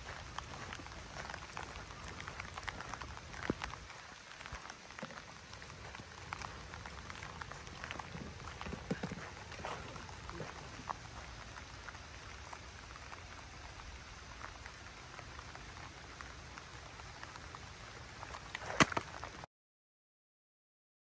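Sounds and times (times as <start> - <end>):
rain falling: 0.0 - 19.5.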